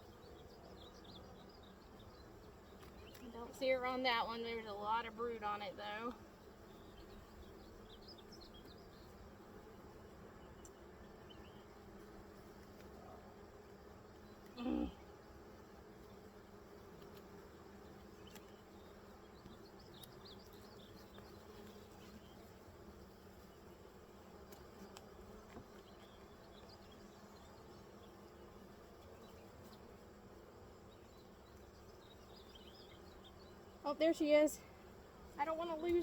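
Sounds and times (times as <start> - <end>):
honeybees humming: 0.0 - 36.0.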